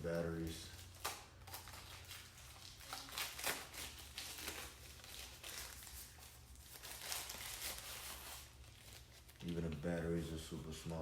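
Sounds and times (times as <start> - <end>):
packaging rustling: 0.2 - 10.2.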